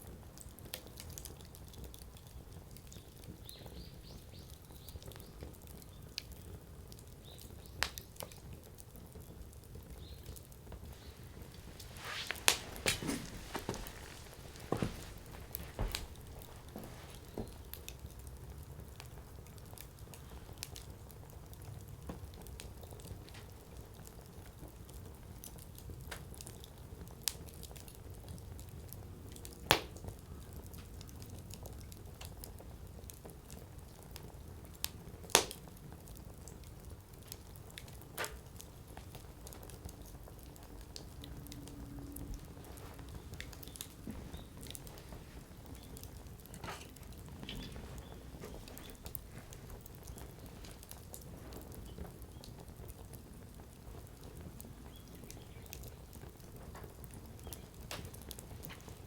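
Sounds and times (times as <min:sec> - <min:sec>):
fire crackles: 0:00.0 - 0:59.0
firewood burning rumble: 0:00.0 - 0:59.0
sharp pops from burning wood: 0:00.2 - 0:59.0.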